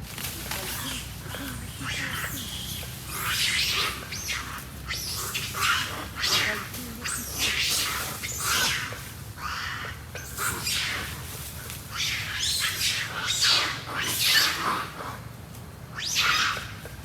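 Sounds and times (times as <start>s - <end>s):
monkeys screaming: 0.4s - 15.2s, 15.9s - 16.9s.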